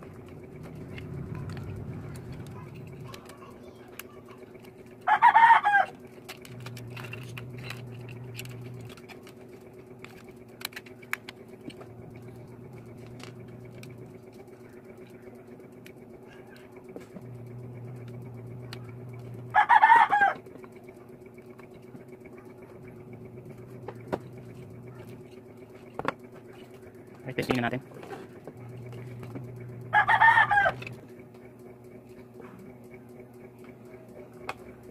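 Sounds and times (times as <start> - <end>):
low electrical hum: 0.0 - 34.9.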